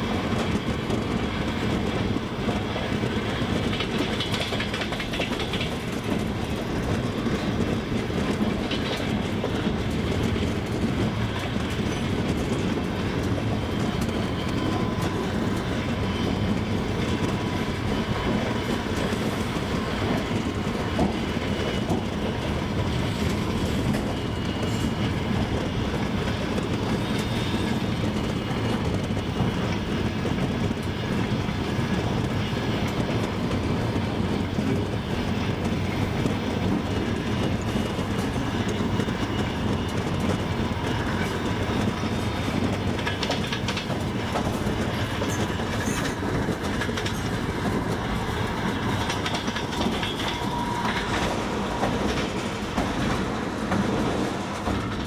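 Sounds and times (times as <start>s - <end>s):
continuous train rumble: 0.0s - 55.0s
train wheels clattering over rail joints: 0.1s - 55.0s.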